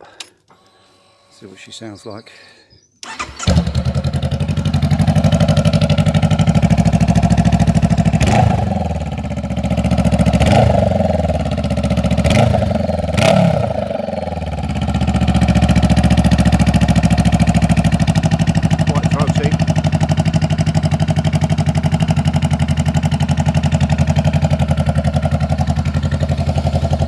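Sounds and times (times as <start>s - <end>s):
loud motorcycle engine revving: 3.4s - 27.0s.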